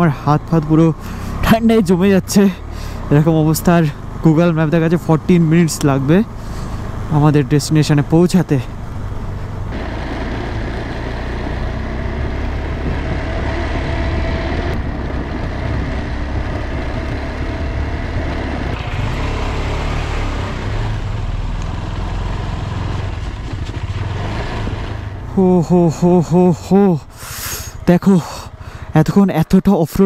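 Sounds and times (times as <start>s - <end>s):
motorcycle engine running: 0.0s - 29.7s
road noise: 0.0s - 30.0s.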